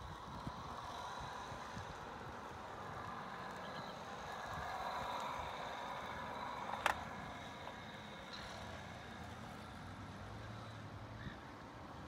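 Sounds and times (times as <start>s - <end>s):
electric scooter motor whining: 0.0s - 10.8s.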